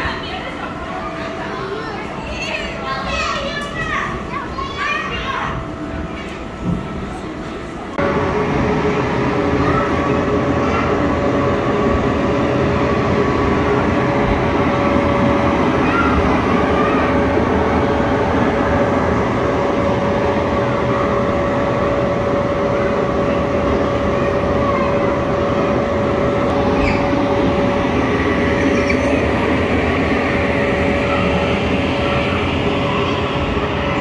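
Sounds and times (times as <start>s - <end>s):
constant hum tone: 0.0s - 34.0s
mechanical rushing rumble: 5.6s - 34.0s.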